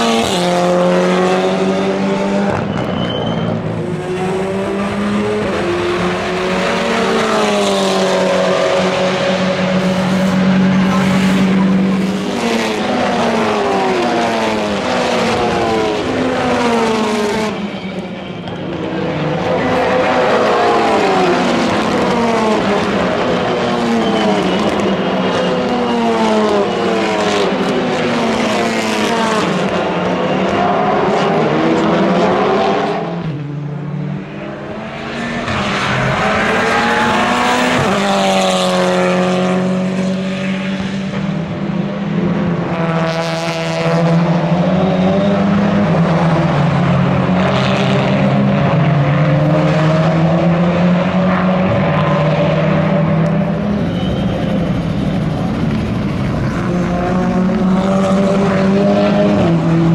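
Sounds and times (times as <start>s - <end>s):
racing car engines passing: 0.0s - 59.9s.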